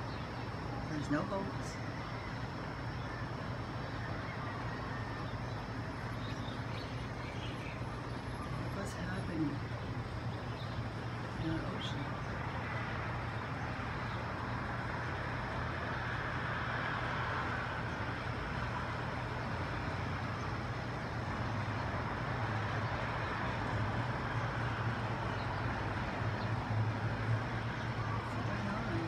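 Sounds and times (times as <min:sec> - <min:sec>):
distant traffic rumble: 0:00.0 - 0:29.0.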